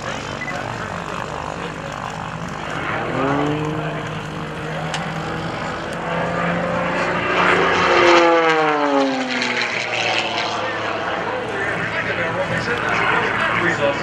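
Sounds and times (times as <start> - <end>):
propeller plane engine running hard: 0.0 - 14.0.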